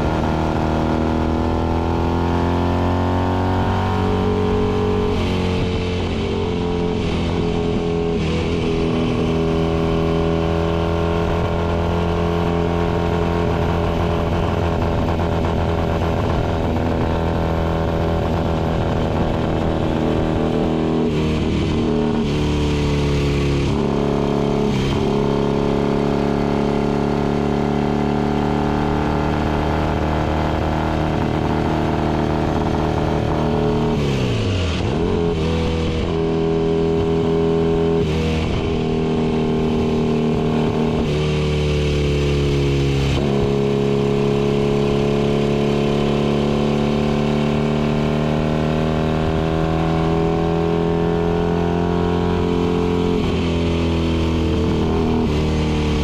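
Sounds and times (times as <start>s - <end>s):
racing motorcycle engine: 0.0s - 56.0s.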